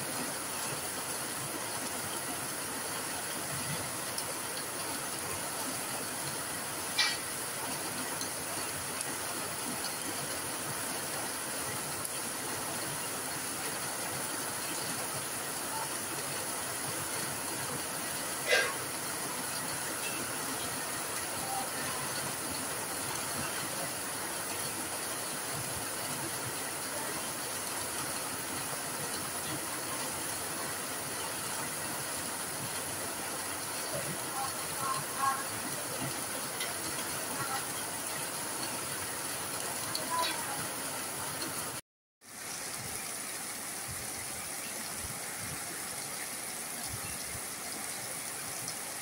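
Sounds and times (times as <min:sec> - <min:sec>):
heavy rain on plants: 0:00.0 - 0:49.0.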